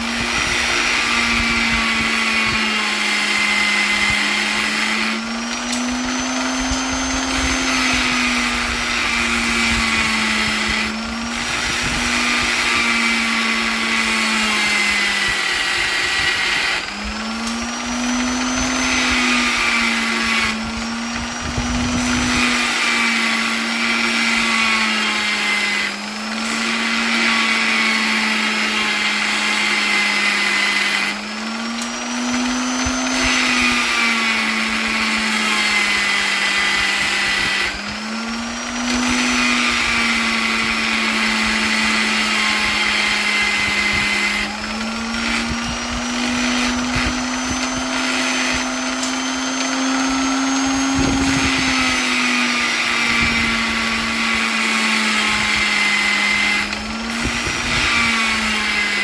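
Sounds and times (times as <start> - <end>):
electric polisher motor whining: 0.0 - 59.0.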